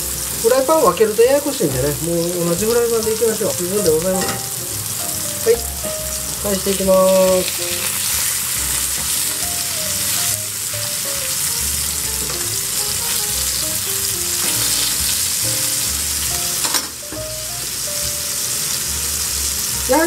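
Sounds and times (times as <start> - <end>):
burgers sizzling in skillet: 0.0 - 20.0.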